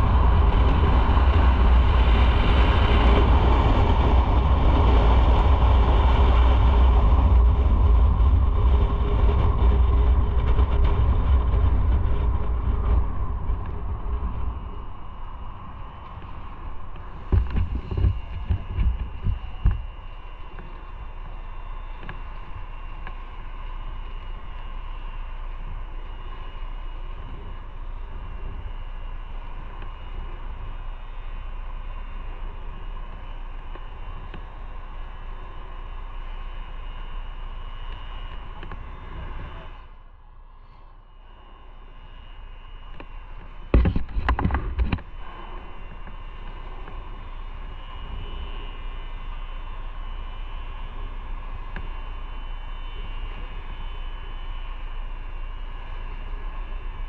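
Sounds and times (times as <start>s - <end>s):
wind noise: 0.0s - 35.7s, 42.8s - 54.3s
motorcycle engine: 0.0s - 57.0s.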